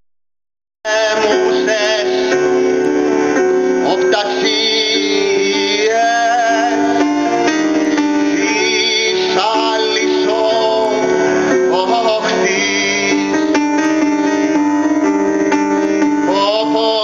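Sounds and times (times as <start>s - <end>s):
person singing: 0.8s - 14.8s, 15.7s - 17.0s
plucked acoustic guitar: 0.9s - 17.0s.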